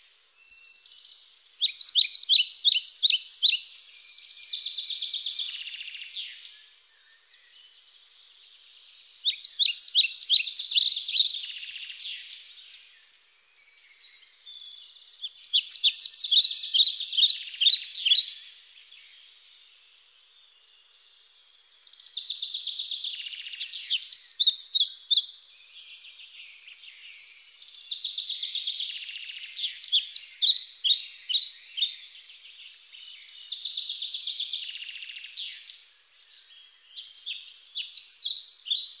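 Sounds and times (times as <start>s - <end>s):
faint bird twittering: 0.0s - 39.0s
songbird singing: 0.0s - 39.0s.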